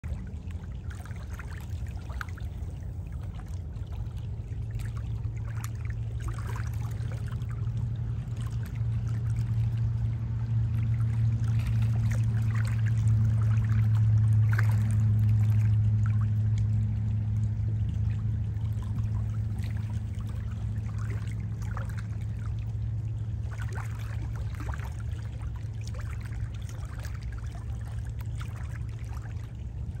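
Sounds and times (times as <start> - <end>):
distant motorboat engine drone: 0.0 - 30.0
small waves lapping shoreline: 0.0 - 30.0.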